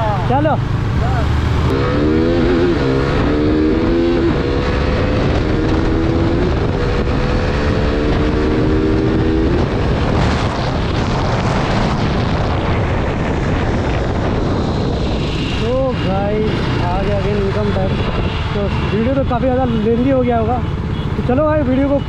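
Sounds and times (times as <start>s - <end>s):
motorcycle engine at speed: 0.1s - 19.1s
wind noise on microphone: 0.6s - 19.8s.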